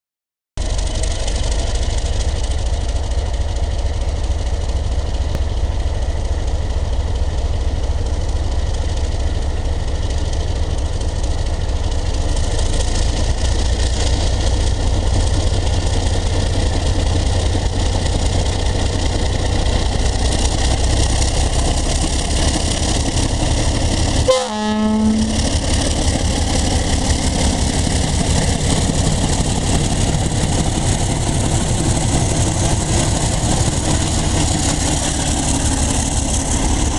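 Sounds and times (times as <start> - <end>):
diesel locomotive engine rumble: 0.6 - 36.9
rolling rail noise: 0.6 - 36.9.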